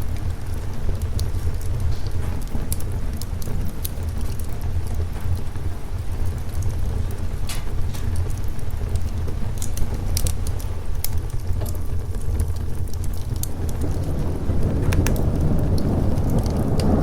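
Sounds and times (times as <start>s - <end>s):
low rumble: 0.0s - 17.0s
rain: 0.0s - 17.0s
wood fire crackling and popping: 0.0s - 17.0s.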